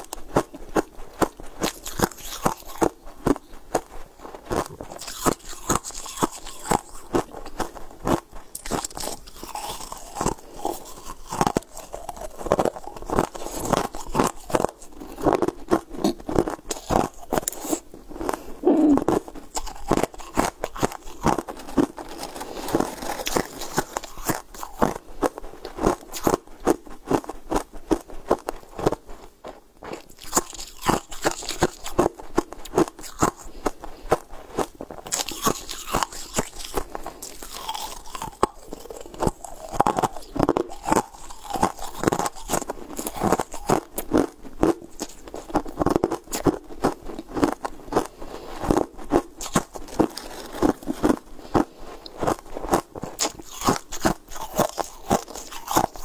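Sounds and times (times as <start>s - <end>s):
person crunching ice chunks: 0.0s - 3.9s, 4.5s - 29.0s, 29.9s - 56.0s.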